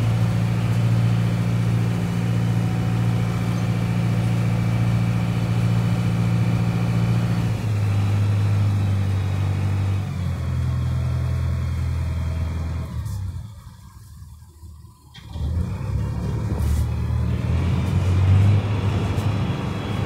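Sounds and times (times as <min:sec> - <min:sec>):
large engine deep hum: 0:00.0 - 0:20.0.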